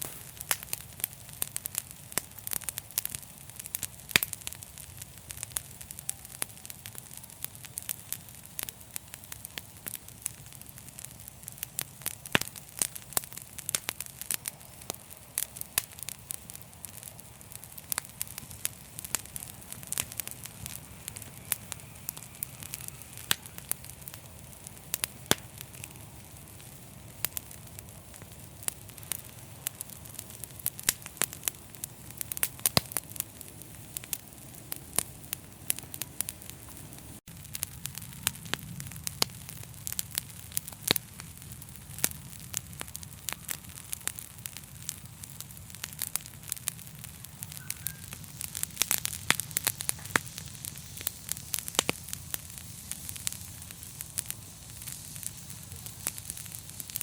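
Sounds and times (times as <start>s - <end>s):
fire crackling and popping: 0.0s - 57.0s
low hiss: 0.0s - 57.0s.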